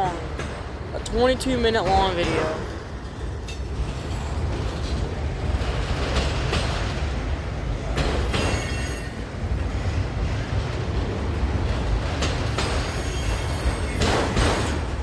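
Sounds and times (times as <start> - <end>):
train clanks: 0.0 - 15.0
train wheels rumbling on rail: 0.0 - 15.0.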